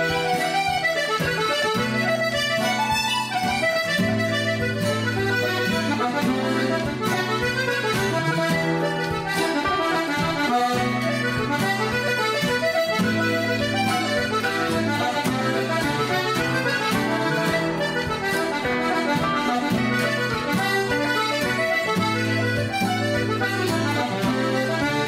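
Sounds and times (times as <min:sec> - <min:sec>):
acoustic guitar accompaniment: 0:00.0 - 0:25.0
button accordion folk tune: 0:00.0 - 0:25.0.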